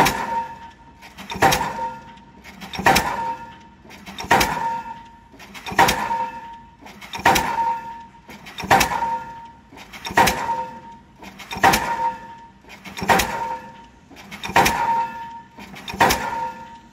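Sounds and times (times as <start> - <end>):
pile hammer metallic blows: 0.0 - 16.9.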